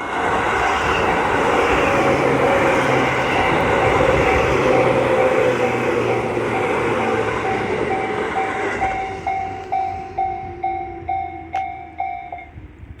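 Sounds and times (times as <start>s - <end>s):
electric train passing: 0.0s - 13.0s
level crossing warning bell: 0.9s - 12.8s.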